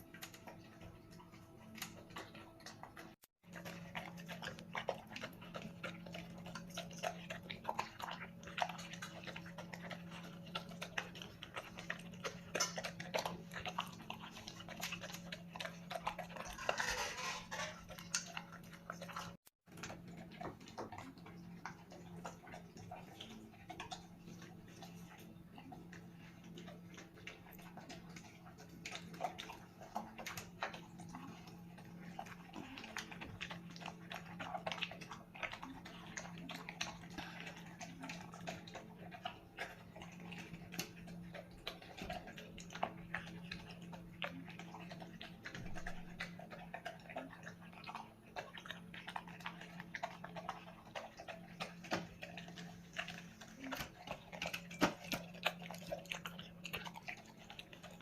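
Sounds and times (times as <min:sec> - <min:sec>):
dog chewing food: 0:00.0 - 0:58.0.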